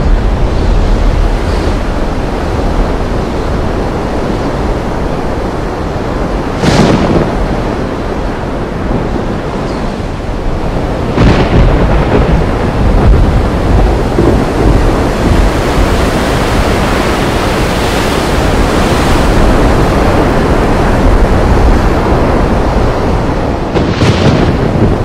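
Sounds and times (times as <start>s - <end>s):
river rushing with deep rumble: 0.0s - 25.0s.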